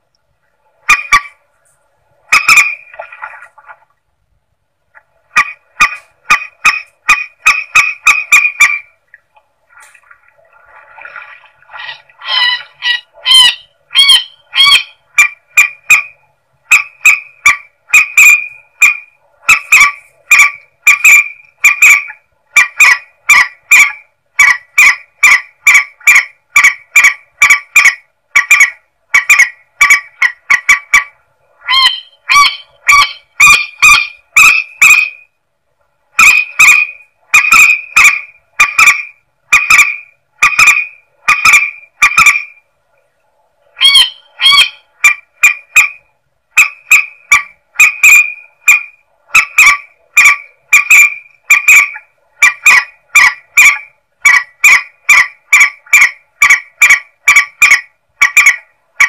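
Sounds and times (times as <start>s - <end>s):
rail bird honking calls: 0.8s - 1.4s, 2.2s - 3.4s, 5.2s - 9.0s, 11.2s - 35.3s, 36.2s - 42.6s, 43.8s - 59.0s.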